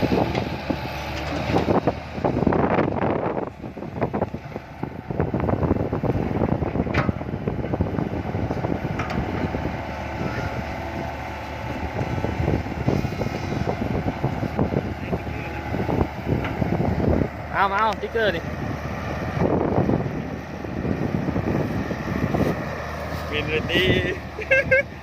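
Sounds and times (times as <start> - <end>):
heavy diesel machinery running: 0.0 - 25.0
wind buffeting microphone: 0.0 - 25.0.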